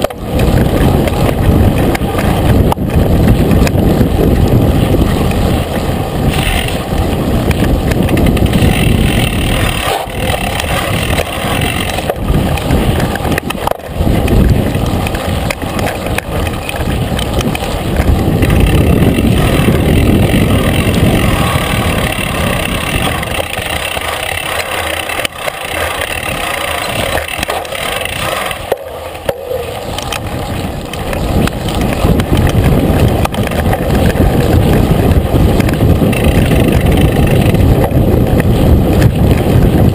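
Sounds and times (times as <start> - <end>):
mountain bike rattling over dirt: 0.0 - 39.9
wind buffeting microphone: 0.0 - 39.9.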